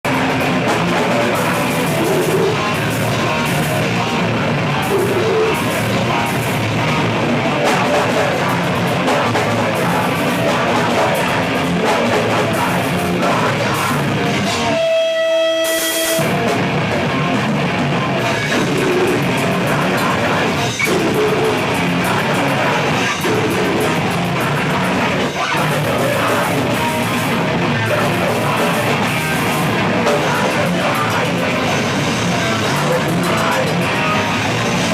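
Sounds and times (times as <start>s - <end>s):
heavy rock band playing: 0.0s - 34.9s.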